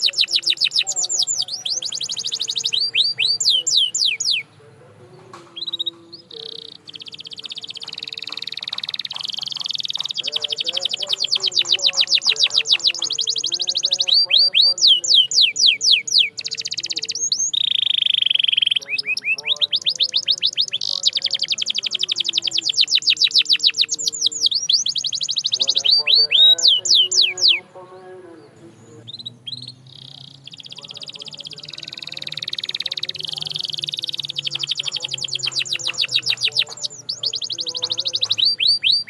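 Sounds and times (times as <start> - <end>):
canary singing trills: 0.0 - 39.0
faint bird chirps: 0.0 - 39.0.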